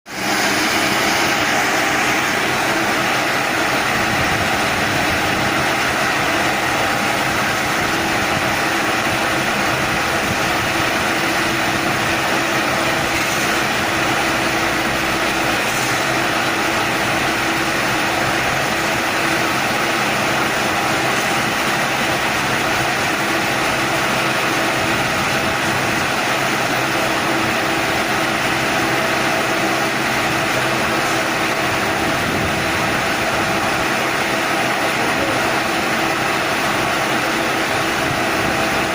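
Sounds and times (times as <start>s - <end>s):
baler machine running: 0.1s - 38.9s.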